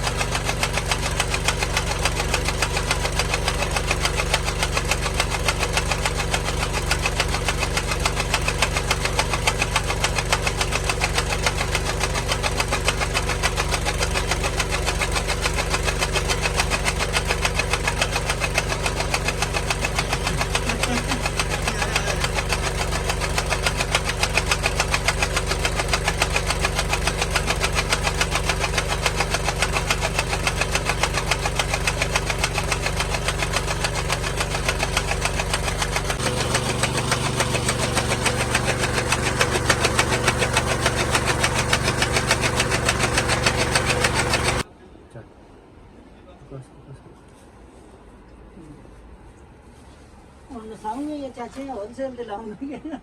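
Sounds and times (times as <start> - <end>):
engine running with knocking: 0.0 - 44.7.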